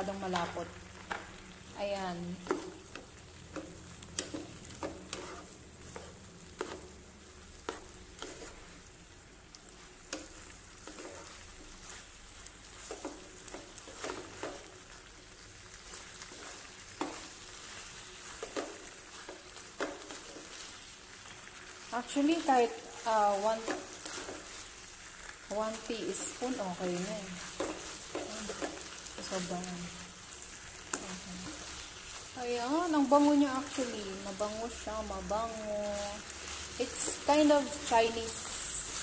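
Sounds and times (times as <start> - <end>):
food sizzling in a wok: 0.0 - 39.0
spatula scraping a pan: 2.4 - 9.0, 9.7 - 15.0, 15.8 - 39.0.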